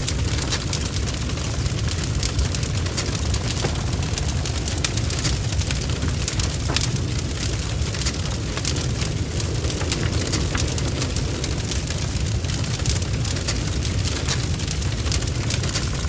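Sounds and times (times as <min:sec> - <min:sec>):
fire roaring and crackling: 0:00.0 - 0:16.0.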